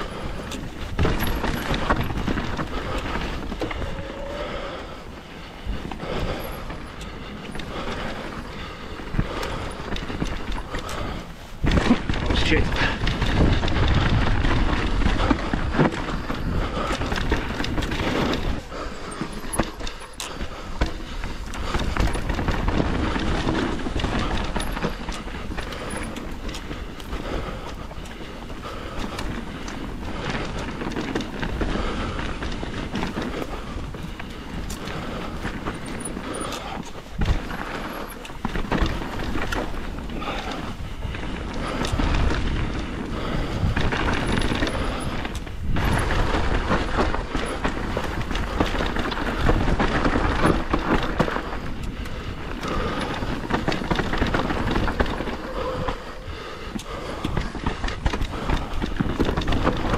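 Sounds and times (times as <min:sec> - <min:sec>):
bike rattling and clattering: 0:00.0 - 0:59.9
bike tyres rolling over dirt: 0:00.0 - 0:59.9.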